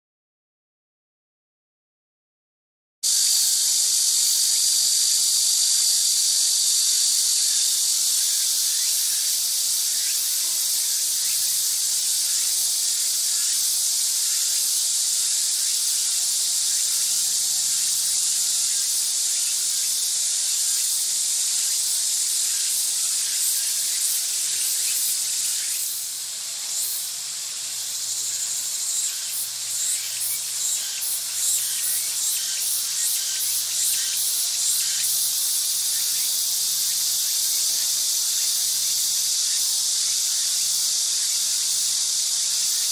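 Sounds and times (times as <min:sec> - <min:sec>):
insects chirring: 0:03.1 - 0:42.9.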